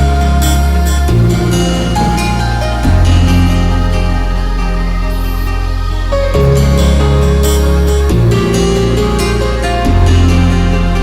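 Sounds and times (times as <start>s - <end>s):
plucked guitar: 0.0s - 11.0s
synth and bass notes: 0.0s - 11.0s.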